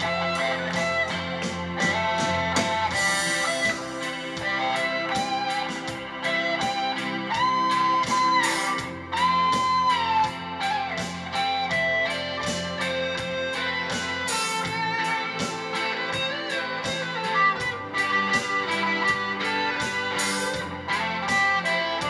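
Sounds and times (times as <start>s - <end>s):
bass: 0.0s - 22.0s
electric guitar lead: 0.0s - 22.0s
keyboards: 0.0s - 22.0s
steady drumbeat: 0.0s - 22.0s.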